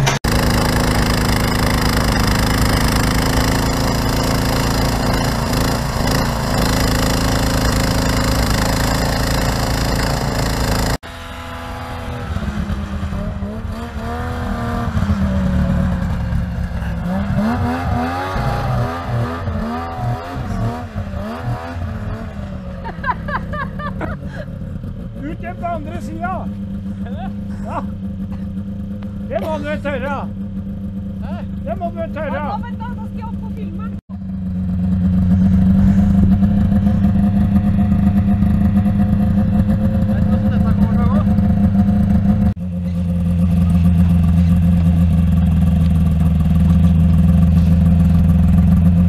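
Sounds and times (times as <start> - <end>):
snowblower engine running: 0.0 - 49.0
snowmobile engine revving: 0.0 - 49.0.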